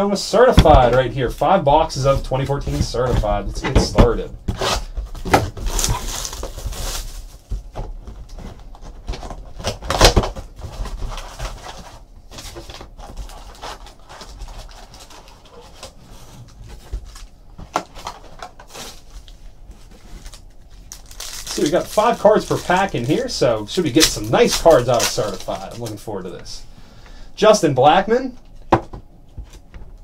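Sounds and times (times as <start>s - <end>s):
card packs rustling: 0.4s - 26.6s.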